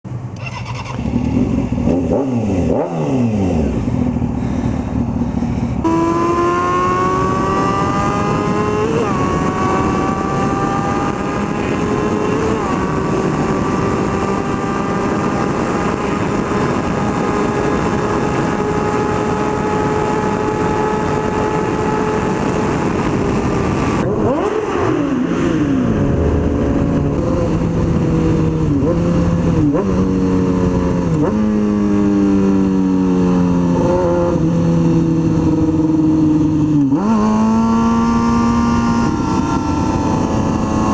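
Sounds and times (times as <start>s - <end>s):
motorcycle engine revving: 0.2s - 40.9s.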